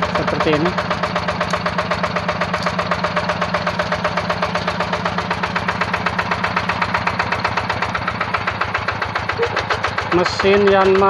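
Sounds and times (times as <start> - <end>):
single-cylinder diesel engine running: 0.0 - 11.0.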